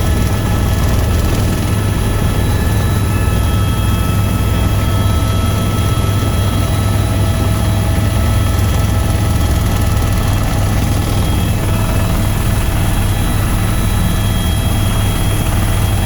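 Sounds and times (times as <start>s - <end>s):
helicopter rotor thrum: 0.0s - 16.0s
high turbine whine: 0.0s - 16.0s.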